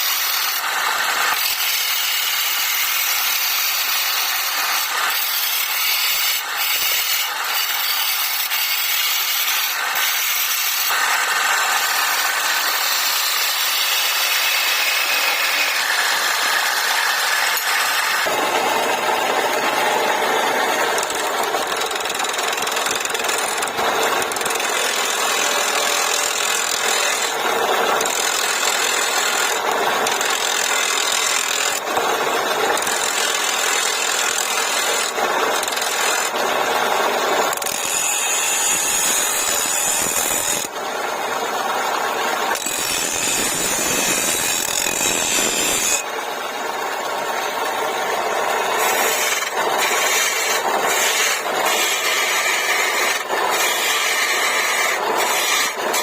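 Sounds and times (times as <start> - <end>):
lathe tool scraping wood: 0.0 - 56.0.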